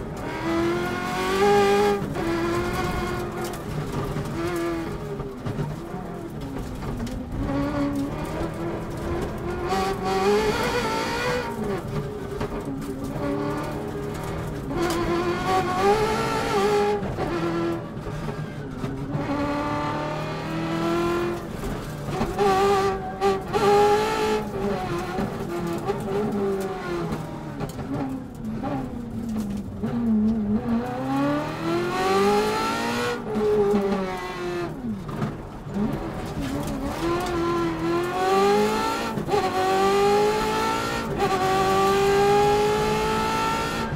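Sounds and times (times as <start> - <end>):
rally car engine revving hard: 0.0 - 5.6, 6.7 - 12.0, 12.6 - 18.3, 19.0 - 43.9.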